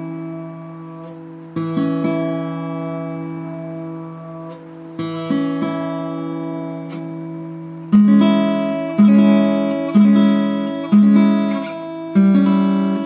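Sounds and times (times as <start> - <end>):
guitar chords strummed: 0.0 - 13.0.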